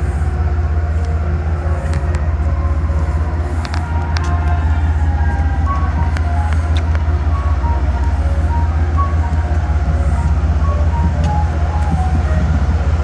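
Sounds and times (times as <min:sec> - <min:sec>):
passenger train cars rumbling: 0:00.0 - 0:13.0.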